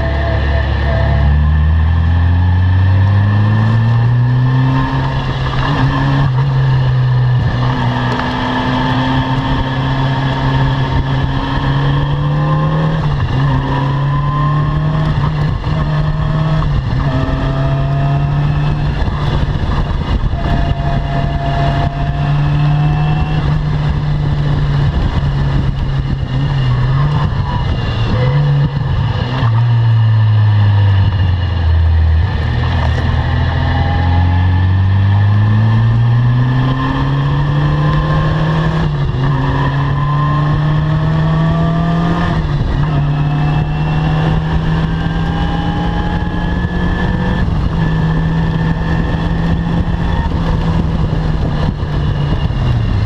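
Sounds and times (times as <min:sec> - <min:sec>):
car engine revving high: 0:00.0 - 0:53.0.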